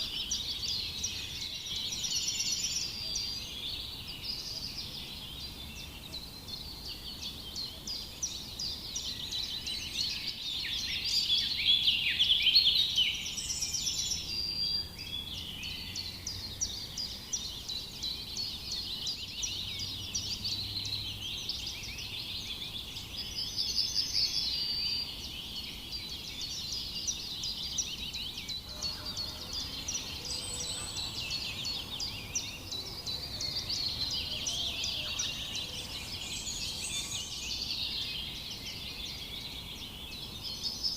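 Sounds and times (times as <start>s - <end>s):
flock of small birds chirping: 0.0s - 40.9s.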